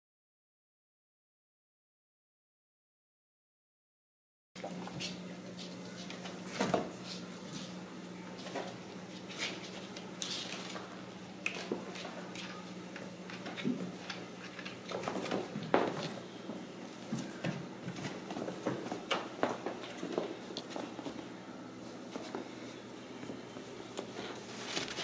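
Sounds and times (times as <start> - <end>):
steady low hum: 4.6 - 25.0.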